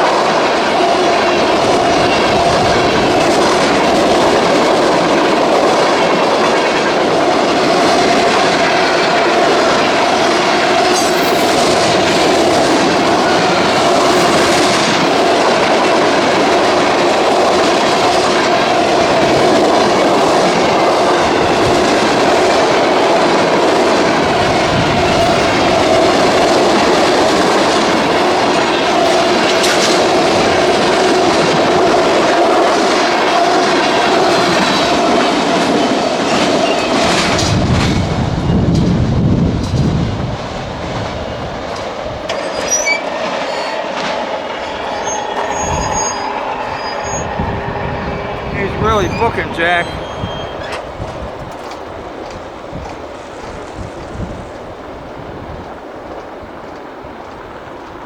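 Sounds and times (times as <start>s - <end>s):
freight train cars rolling: 0.0s - 58.0s
wheels clacking over rail joints: 0.0s - 58.0s.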